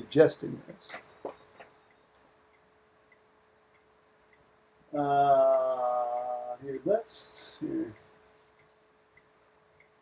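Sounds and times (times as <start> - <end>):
faint steady hum: 0.0 - 10.0
faint small ticks: 0.8 - 4.6, 5.4 - 10.0.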